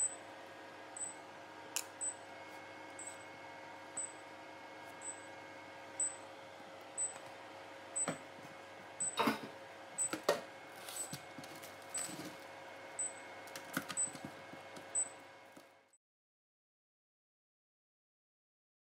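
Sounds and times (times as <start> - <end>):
steady hum: 0.0 - 15.9.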